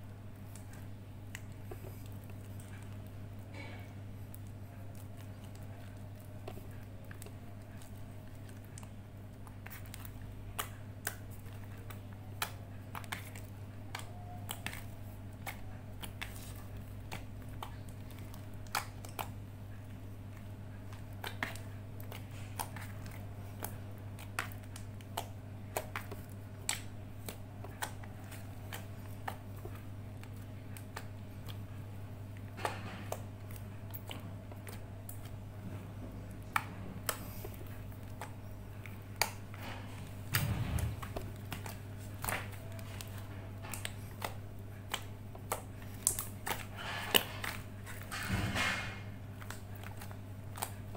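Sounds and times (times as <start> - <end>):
slime kneaded by hand: 0.0 - 50.9.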